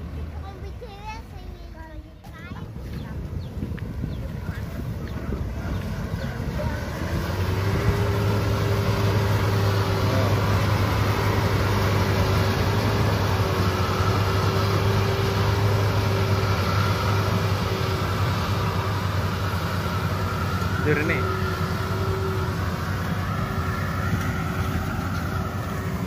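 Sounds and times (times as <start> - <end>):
combine harvester engine hum: 0.0 - 26.0.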